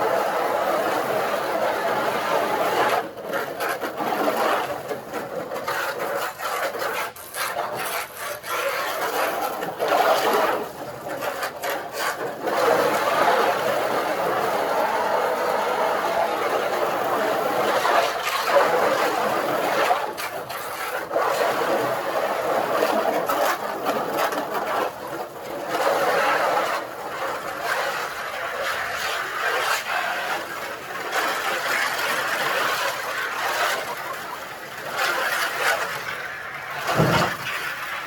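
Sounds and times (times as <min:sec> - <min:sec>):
water running from a hose: 0:00.0 - 0:38.0.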